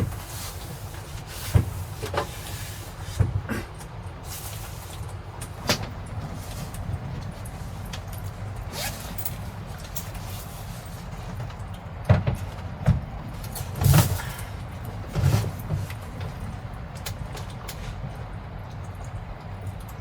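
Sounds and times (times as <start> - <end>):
wind and rain buffeting vehicle: 0.0 - 20.0.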